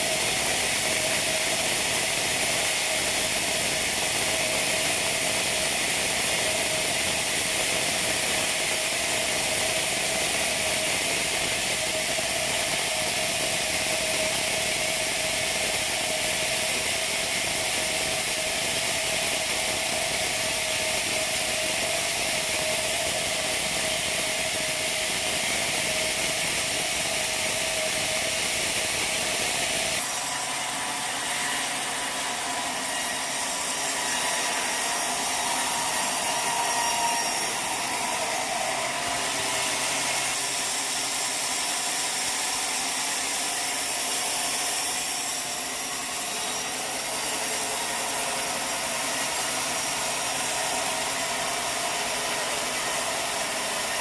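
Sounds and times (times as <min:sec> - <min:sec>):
machinery running with steady tones: 0:00.0 - 0:54.0
powered saw cutting wood: 0:00.0 - 0:54.0.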